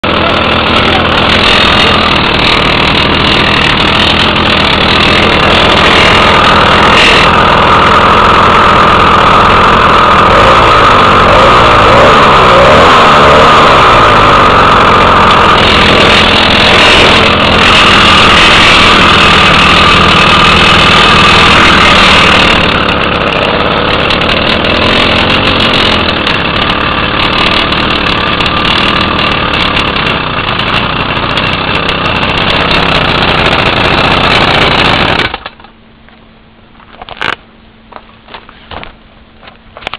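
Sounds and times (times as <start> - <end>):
two-stroke engine running: 0.0 - 35.8
strange engine noise: 0.0 - 39.9.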